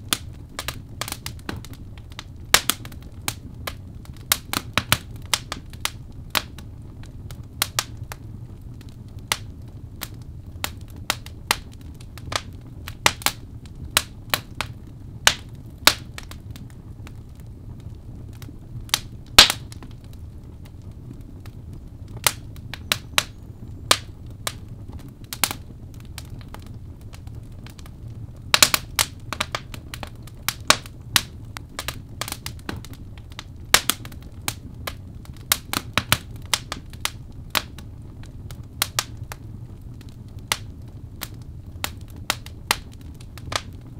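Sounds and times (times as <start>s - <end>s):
logs crackling and popping in fire: 0.0s - 43.9s
low rumble of fire: 0.0s - 43.9s.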